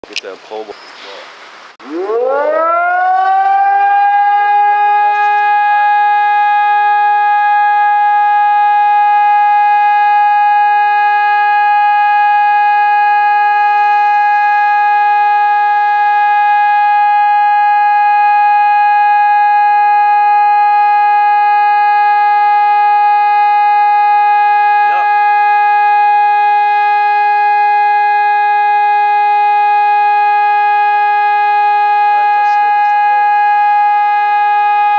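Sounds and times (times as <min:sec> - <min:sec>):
civil defense siren: 0:01.8 - 0:34.9.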